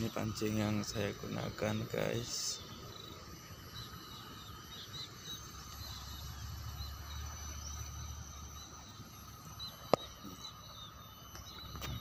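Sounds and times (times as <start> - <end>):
small high chirps: 0.0 - 12.0.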